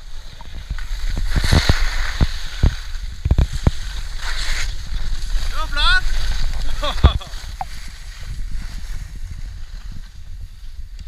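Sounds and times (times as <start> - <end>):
skis scraping on snow: 0.0 - 11.0
wind buffeting microphone: 0.0 - 11.0.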